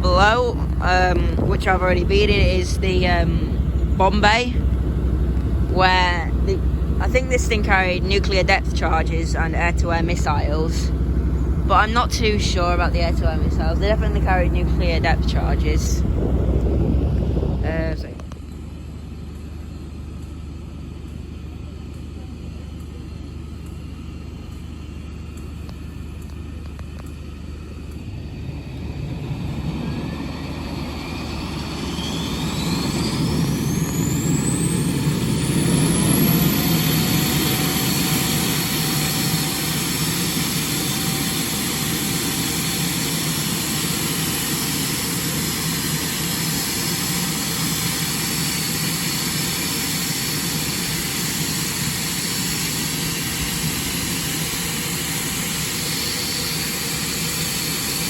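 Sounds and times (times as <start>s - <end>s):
jet engine rumble: 0.0s - 58.0s
jet engine whine: 0.0s - 58.0s.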